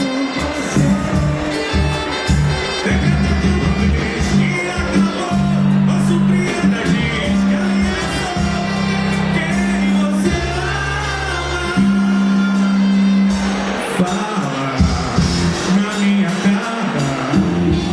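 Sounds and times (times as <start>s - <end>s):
band playing a song: 0.0s - 17.9s
held bass notes: 0.0s - 17.9s
person singing: 0.0s - 17.9s.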